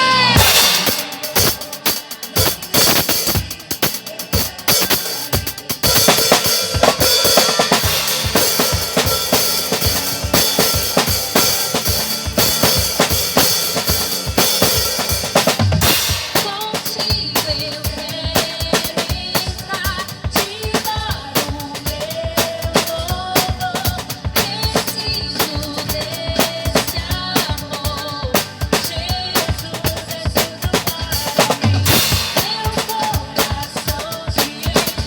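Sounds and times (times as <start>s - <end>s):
drum kit playing a steady beat: 0.0s - 35.0s
recorded song: 0.0s - 35.0s.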